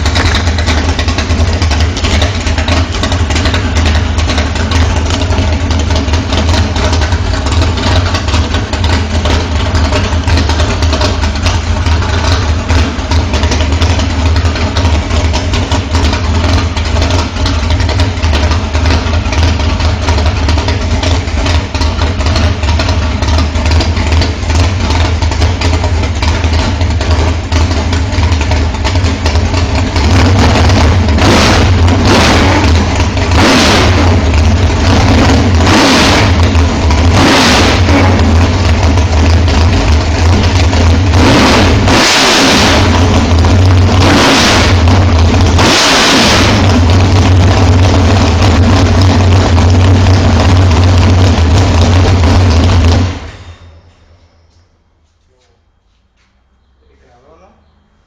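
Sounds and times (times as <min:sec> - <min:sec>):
car engine revving: 0:00.0 - 0:53.4
car engine idling roughly: 0:00.0 - 0:53.9.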